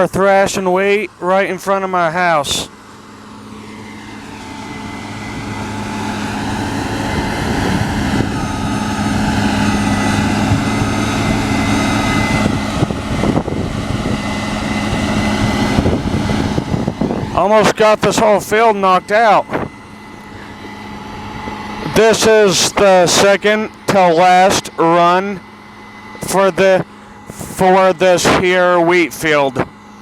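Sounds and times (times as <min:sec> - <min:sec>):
combine harvester diesel drone: 0:00.0 - 0:30.0.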